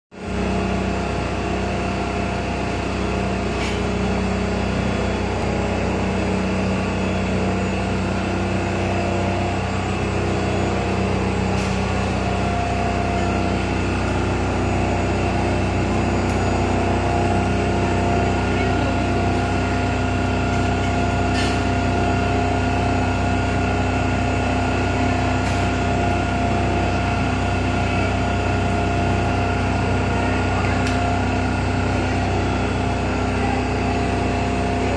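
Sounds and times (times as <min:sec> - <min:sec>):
machinery motors humming: 0:00.2 - 0:34.9.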